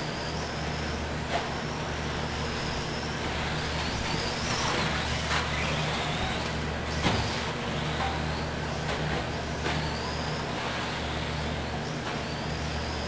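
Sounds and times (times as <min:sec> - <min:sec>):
electric motor whining: 0:00.0 - 0:13.0
steady low hum: 0:00.0 - 0:13.0.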